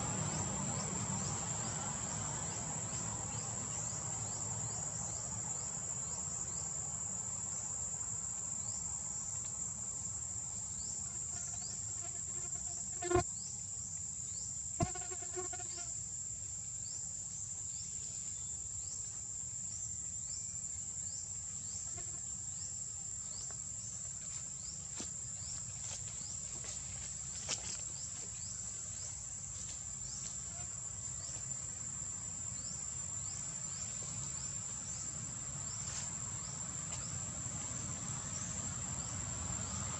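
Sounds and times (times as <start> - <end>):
insects droning and chirping: 0.0 - 39.9.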